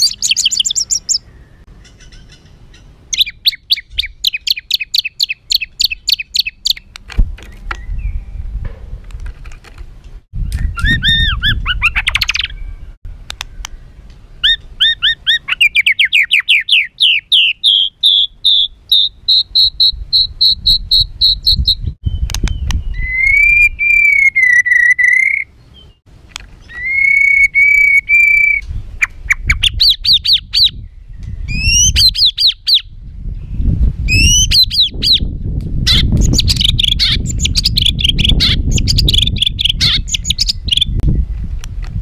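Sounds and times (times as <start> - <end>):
songbird singing harsh song: 0.0 - 8.6, 10.4 - 41.6.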